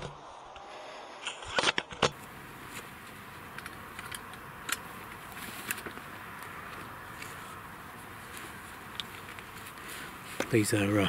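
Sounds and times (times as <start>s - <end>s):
handling clicks and rustles: 1.6s - 11.0s.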